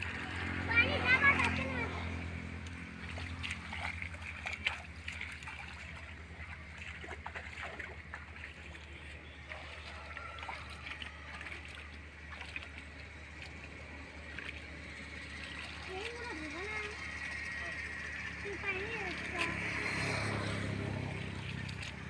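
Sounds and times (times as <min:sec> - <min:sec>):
people wading in muddy water: 0:00.0 - 0:22.0
steady low hum: 0:00.0 - 0:22.0.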